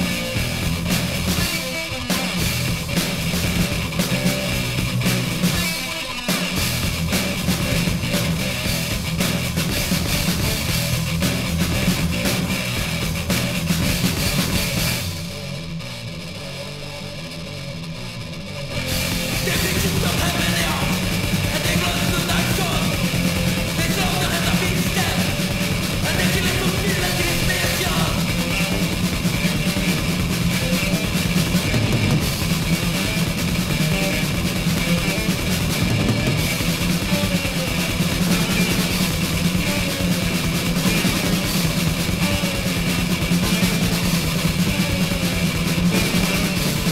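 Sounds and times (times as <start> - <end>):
drum kit: 0.0 - 16.3, 17.2 - 46.9
distorted guitars: 0.0 - 46.9.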